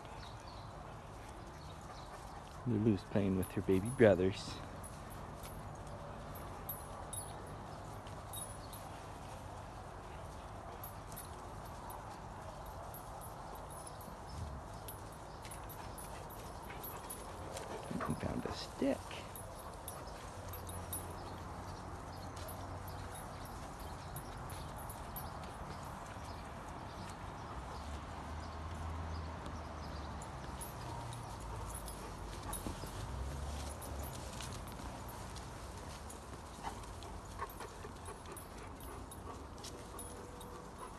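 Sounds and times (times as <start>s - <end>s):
puppies scuffling on grass: 0.0s - 40.9s.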